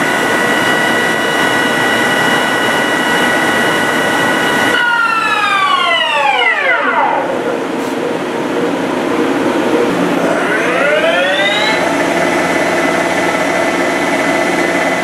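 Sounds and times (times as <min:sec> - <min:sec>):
lathe spindle whining: 0:00.0 - 0:15.0
steady machine hum: 0:00.0 - 0:15.0.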